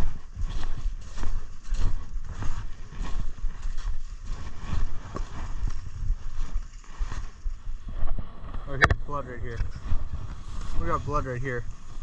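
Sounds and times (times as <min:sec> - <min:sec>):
footsteps crunching through dry leaves: 0:00.0 - 0:12.0
low microphone rumble: 0:00.0 - 0:12.0.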